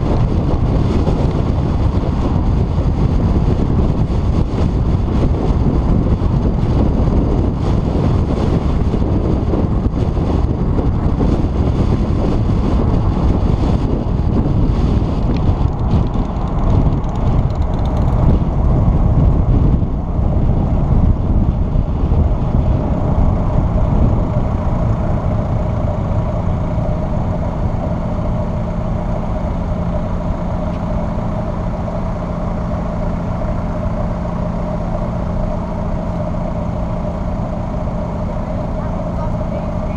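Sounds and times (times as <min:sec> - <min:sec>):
steady engine hum: 0:00.0 - 0:39.9
wind and road noise: 0:00.0 - 0:39.9.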